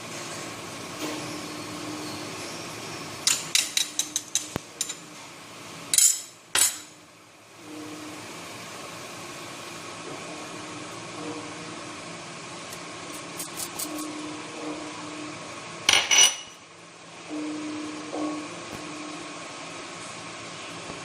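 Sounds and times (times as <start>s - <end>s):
steady low hum: 3.2s - 21.0s.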